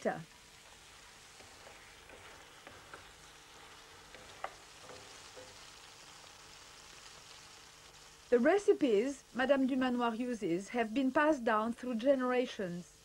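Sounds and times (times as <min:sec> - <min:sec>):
mushrooms frying in a pan: 0:00.0 - 0:13.0.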